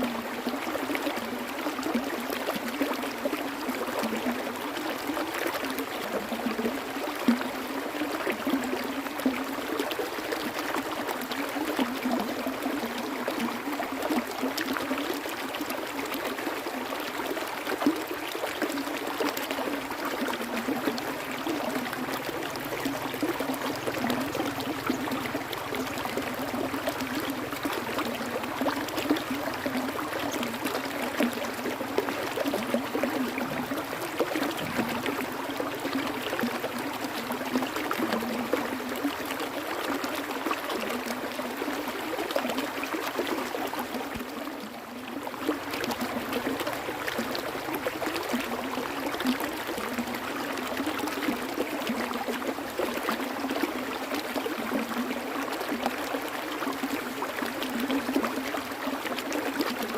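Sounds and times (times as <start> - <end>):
water flowing with splashes: 0.0 - 59.9.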